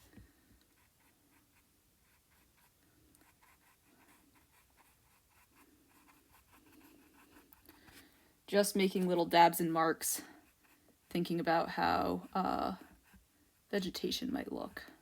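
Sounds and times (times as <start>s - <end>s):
paintbrush dabbing and stroking: 0.0s - 8.0s, 8.6s - 15.0s.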